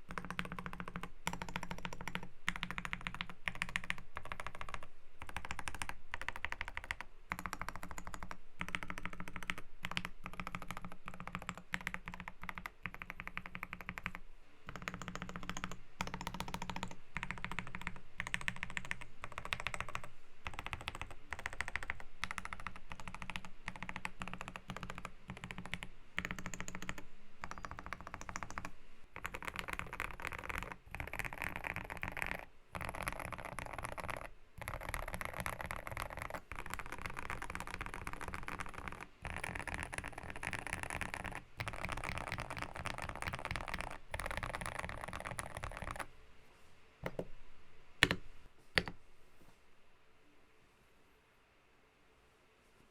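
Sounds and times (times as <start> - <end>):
mechanical keyboard typing: 0.0 - 46.1, 47.0 - 47.4, 48.0 - 49.0.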